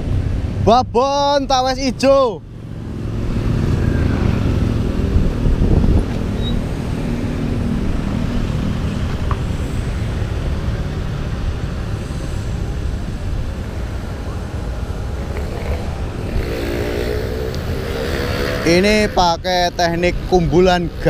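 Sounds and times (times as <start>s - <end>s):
low rumble of road traffic: 0.0s - 21.0s
vehicle passing: 2.4s - 21.0s.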